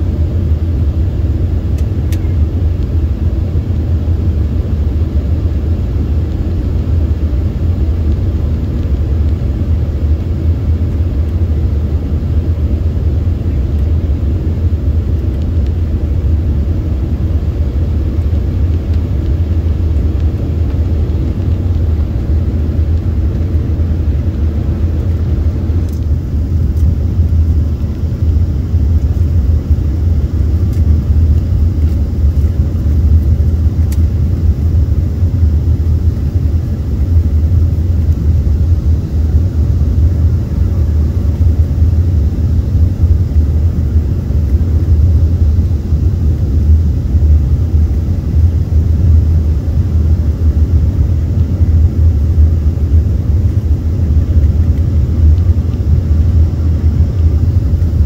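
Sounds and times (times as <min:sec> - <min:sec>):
jet cabin rumble: 0:00.0 - 0:58.0.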